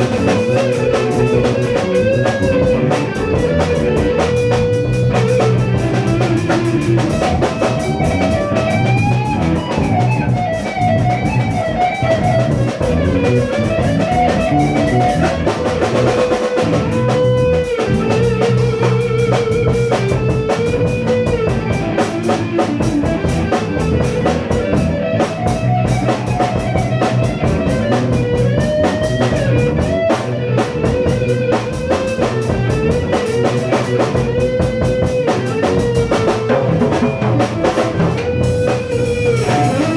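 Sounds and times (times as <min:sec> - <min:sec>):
bass notes: 0:00.0 - 0:39.9
drum kit: 0:00.0 - 0:39.9
electric guitar lead melody: 0:00.0 - 0:39.9.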